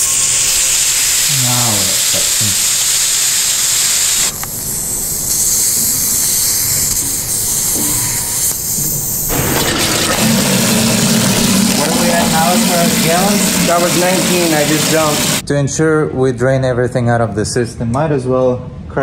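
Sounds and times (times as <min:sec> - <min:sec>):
air hissing through radiator valve: 0:00.0 - 0:15.4.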